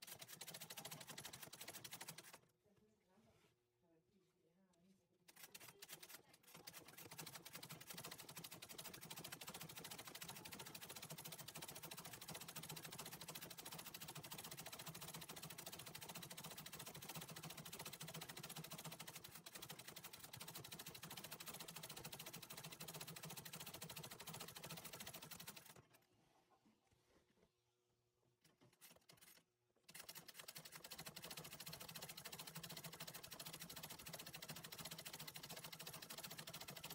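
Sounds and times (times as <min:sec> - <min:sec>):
treadle sewing machine stitching: 0:00.0 - 0:02.4, 0:05.3 - 0:26.0, 0:28.5 - 0:36.9.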